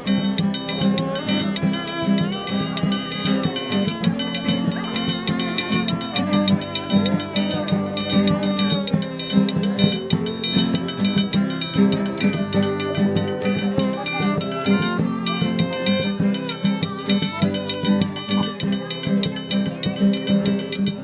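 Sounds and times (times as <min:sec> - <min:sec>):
guitar strumming chords: 0:00.0 - 0:21.0.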